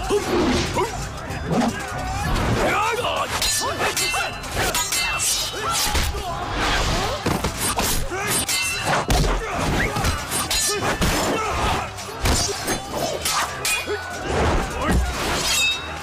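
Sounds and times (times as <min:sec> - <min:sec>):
background music: 0:00.0 - 0:16.0
fighters shouting and grunting: 0:00.0 - 0:16.0
metal clashes: 0:00.0 - 0:16.0.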